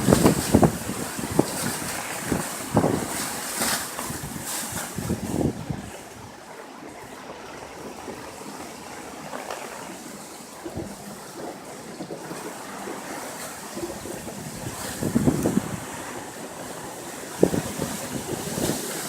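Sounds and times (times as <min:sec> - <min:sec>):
gusting wind: 0:00.0 - 0:19.0
heavy rain: 0:00.0 - 0:19.0.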